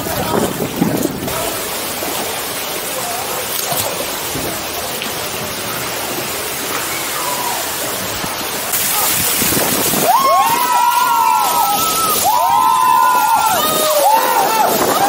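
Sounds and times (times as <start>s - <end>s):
water falling and splashing: 0.0s - 15.0s.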